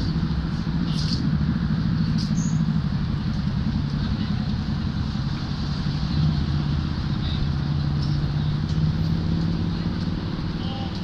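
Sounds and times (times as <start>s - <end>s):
city street traffic rumble: 0.0s - 11.0s
low engine hum: 0.0s - 11.0s.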